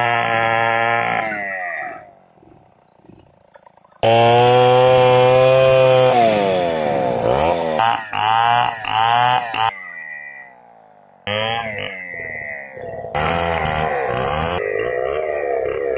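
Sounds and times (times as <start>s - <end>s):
chainsaw revving: 0.0s - 3.2s, 4.0s - 15.9s.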